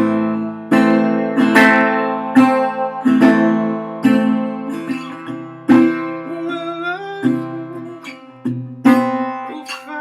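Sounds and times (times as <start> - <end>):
resonator guitar strumming chords: 0.0 - 10.0.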